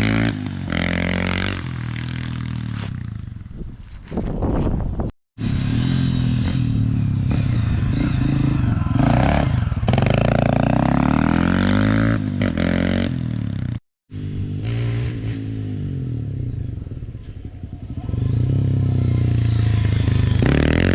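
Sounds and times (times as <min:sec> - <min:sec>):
dirt bike engine revving: 0:00.0 - 0:03.6, 0:05.4 - 0:20.9.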